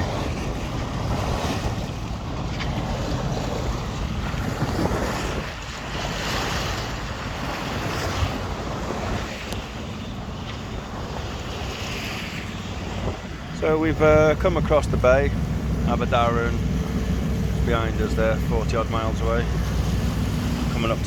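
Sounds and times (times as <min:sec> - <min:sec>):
boat engine running: 0:00.0 - 0:21.0
water rushing past hull: 0:00.0 - 0:21.0
wind buffeting microphone: 0:00.0 - 0:21.0.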